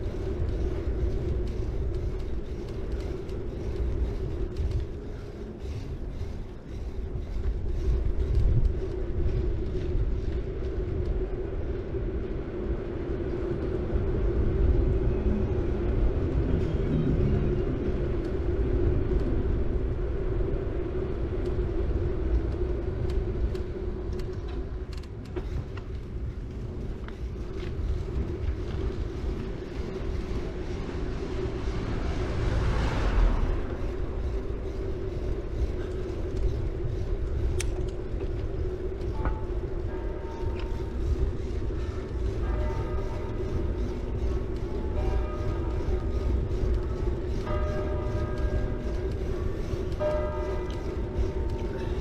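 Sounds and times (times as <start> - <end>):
bicycle tyres rolling on road: 0.0 - 52.0
steady hum: 0.0 - 52.0.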